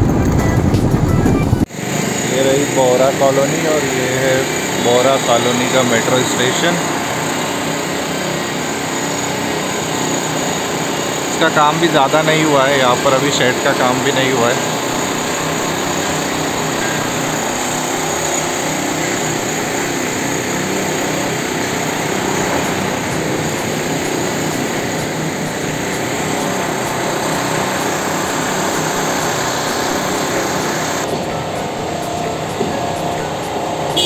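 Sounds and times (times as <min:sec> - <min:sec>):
motor running steadily: 0:00.0 - 0:34.0
road traffic: 0:00.0 - 0:34.0.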